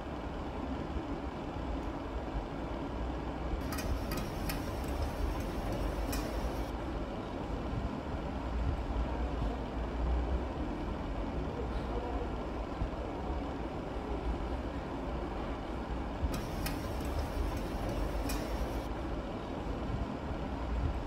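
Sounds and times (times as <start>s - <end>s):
low mechanical rumble: 0.2s - 21.0s.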